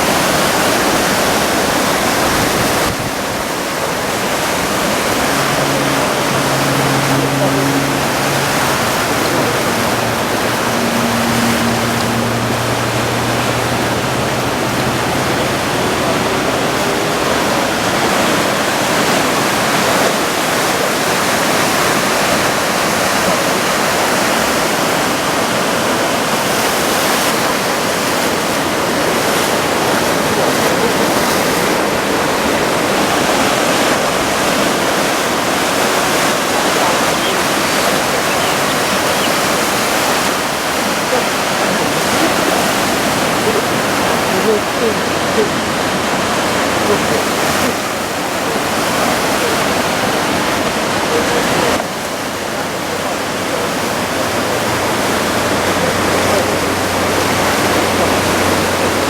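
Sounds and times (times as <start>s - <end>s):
heavy surf breaking: 0.0s - 59.0s.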